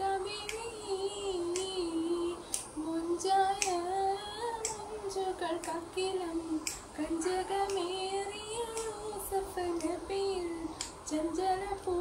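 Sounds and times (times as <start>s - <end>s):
woman singing solo: 0.0s - 12.0s.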